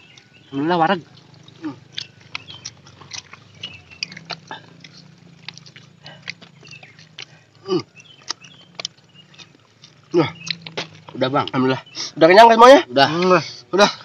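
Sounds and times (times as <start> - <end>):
chewing and crunching food: 0.0 - 12.2.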